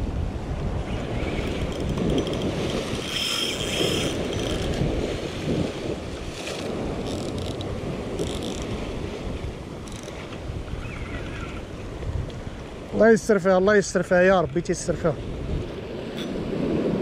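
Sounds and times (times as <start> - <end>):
wind buffeting microphone: 0.0 - 13.4, 14.6 - 17.0
sea waves on rocky shore: 0.1 - 17.0.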